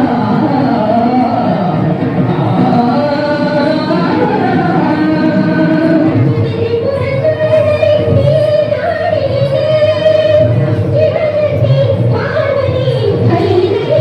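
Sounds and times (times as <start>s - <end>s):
music accompaniment: 0.0s - 14.0s
person singing: 0.0s - 14.0s.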